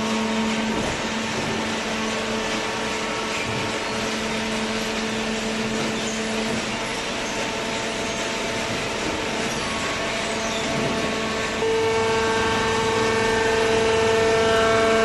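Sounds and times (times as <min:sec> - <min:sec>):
cardboard baler droning: 0:00.0 - 0:15.0.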